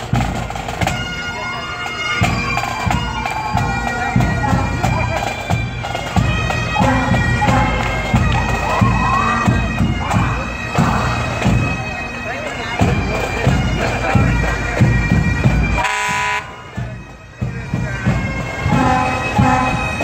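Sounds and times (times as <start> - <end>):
bagpipes playing: 0.0 - 20.0.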